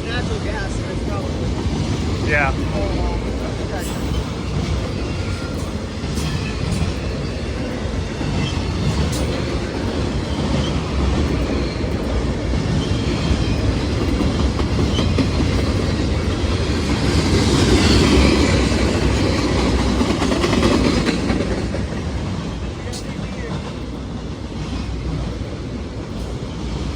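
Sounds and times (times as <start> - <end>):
train rumble: 0.0 - 26.9
train wheels clicking over rail joints: 0.0 - 26.9.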